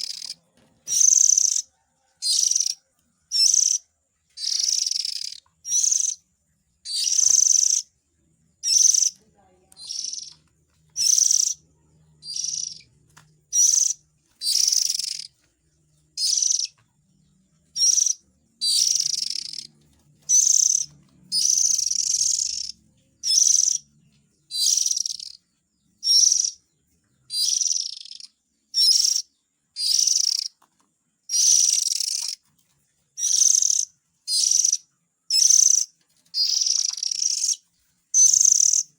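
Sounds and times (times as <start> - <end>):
harsh rasping bird calls: 0.0 - 8.0, 8.6 - 15.5, 16.1 - 30.6, 31.3 - 32.5, 33.1 - 38.9.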